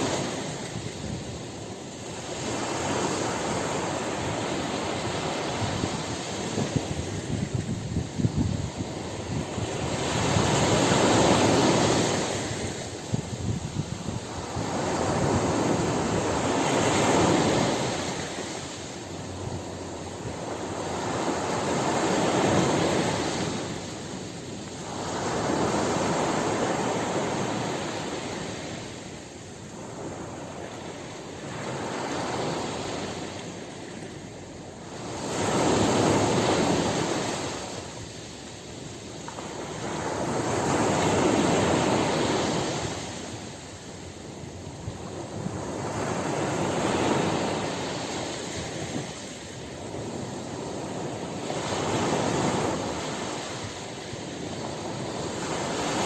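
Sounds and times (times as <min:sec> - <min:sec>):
ocean surf breaking on beach: 0:00.0 - 0:56.0.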